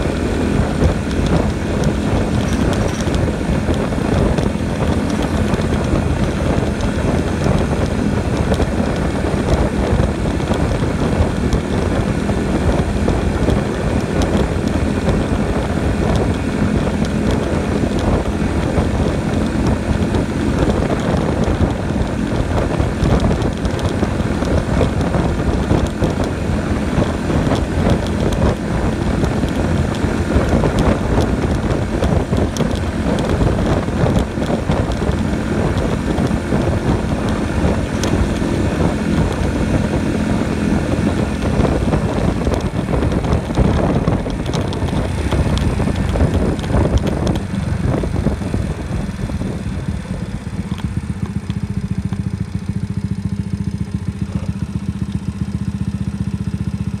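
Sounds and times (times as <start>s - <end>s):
motorcycle engine hum: 0.0s - 57.0s
wind rushing over microphone: 0.0s - 57.0s.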